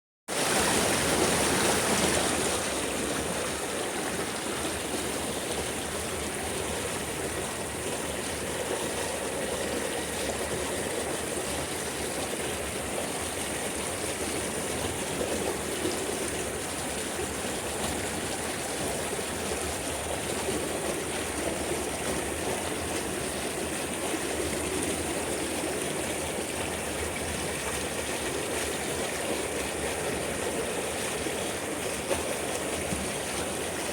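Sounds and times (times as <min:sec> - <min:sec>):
running water: 0:00.3 - 0:33.9.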